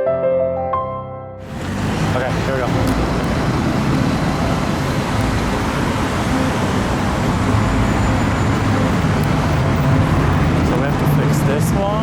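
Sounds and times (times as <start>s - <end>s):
freeway traffic rushing: 1.4s - 12.0s.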